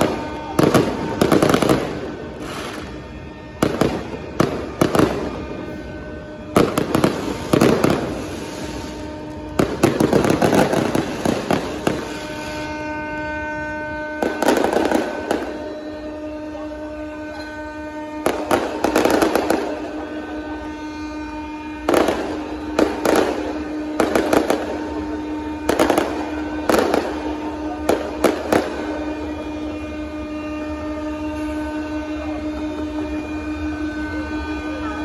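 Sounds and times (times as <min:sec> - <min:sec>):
fireworks bangs and crackles: 0:00.0 - 0:35.0
tugboat horns blasting: 0:00.0 - 0:35.0.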